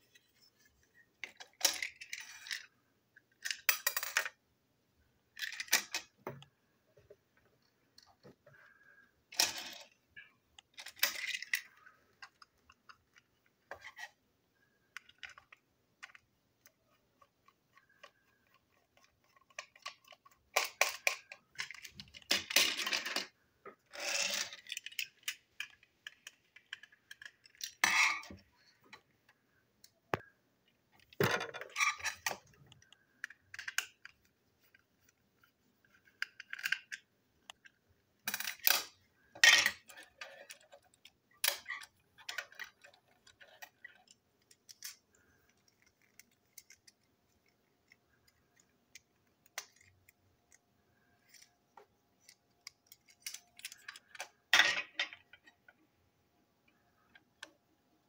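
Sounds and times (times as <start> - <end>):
toy parts clicking and rattling: 1.2 - 4.4, 5.3 - 6.5, 7.6 - 30.3, 31.0 - 55.8.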